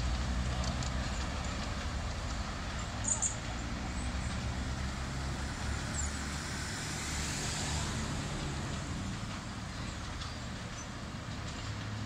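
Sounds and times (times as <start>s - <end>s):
miniature train rumbling on track: 0.0s - 12.0s.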